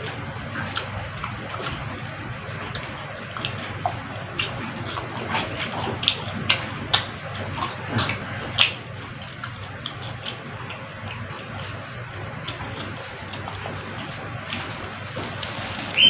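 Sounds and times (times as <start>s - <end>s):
person chewing and smacking: 0.0s - 16.0s.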